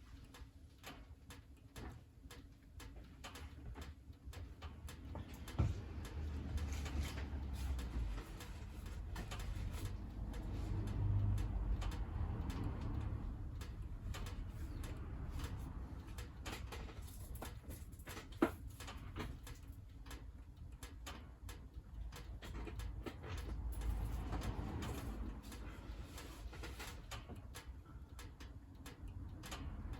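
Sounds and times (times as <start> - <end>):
low fire rumble: 0.5 - 29.9.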